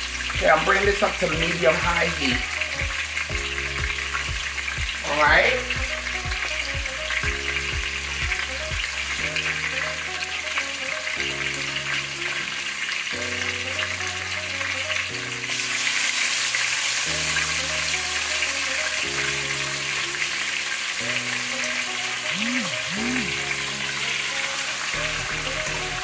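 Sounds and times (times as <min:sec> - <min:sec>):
meat sizzling in hot oil: 0:00.0 - 0:26.0
soft background music: 0:00.0 - 0:26.0.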